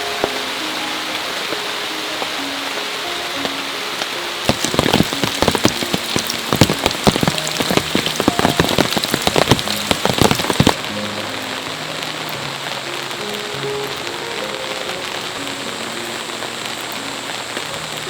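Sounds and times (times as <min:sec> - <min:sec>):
large raindrops striking a surface: 0:00.0 - 0:18.0
rain hissing: 0:00.0 - 0:18.0
soft music: 0:00.0 - 0:18.0.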